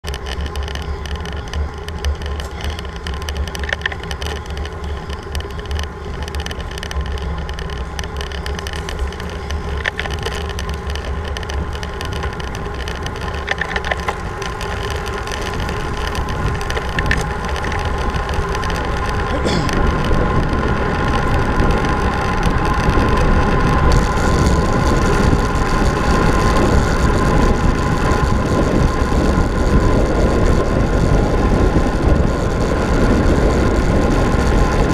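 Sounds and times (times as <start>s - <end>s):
bike tyre noise: 0.0s - 34.9s
sharp clicks from road bumps: 0.0s - 34.9s
wind on microphone: 0.0s - 34.9s.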